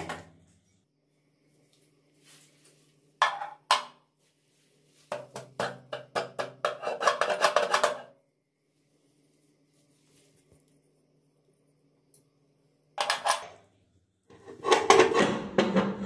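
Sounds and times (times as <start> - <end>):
faint steady hum: 0.0 - 15.2.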